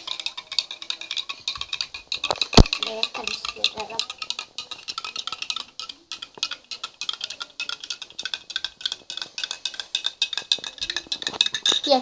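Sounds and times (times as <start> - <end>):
spoon clinking against bowl: 0.0 - 12.0.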